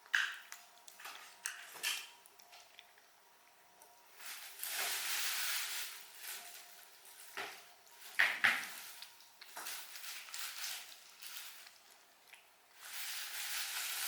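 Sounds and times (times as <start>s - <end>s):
hissing rustling eating noise: 0.8s - 14.0s.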